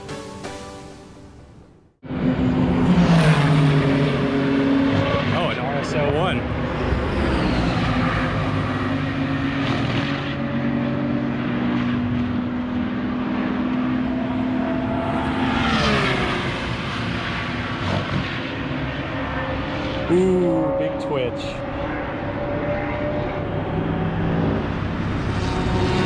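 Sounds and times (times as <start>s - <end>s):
car passing by: 2.0s - 12.3s, 12.9s - 26.0s
car engines at high revs: 2.0s - 26.0s.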